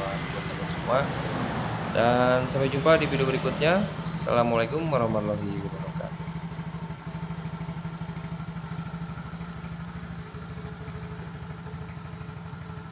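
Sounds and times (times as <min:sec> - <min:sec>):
scooter engine idling: 0:00.0 - 0:12.9.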